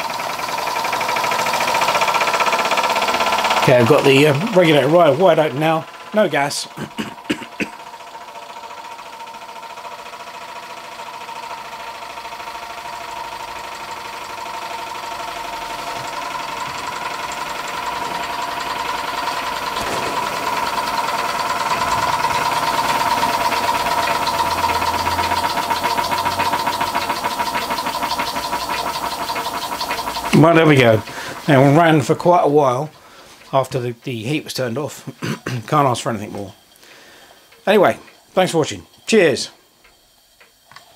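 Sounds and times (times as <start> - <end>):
steam engine exhaust puffs: 0.0 - 9.8, 10.6 - 40.9.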